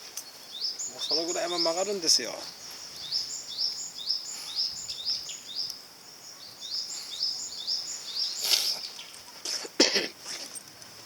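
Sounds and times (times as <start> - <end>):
high chirping call: 0.2 - 9.2.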